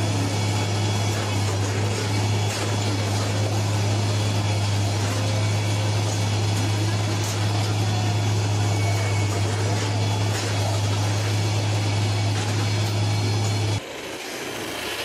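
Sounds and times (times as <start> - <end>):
diesel engine droning: 0.0 - 15.0
machinery noise: 0.0 - 15.0.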